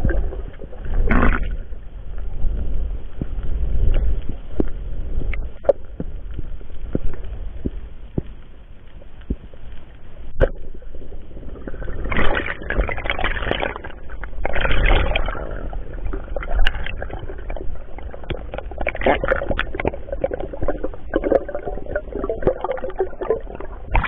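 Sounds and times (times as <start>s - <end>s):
low underwater rumble: 0.0s - 24.0s.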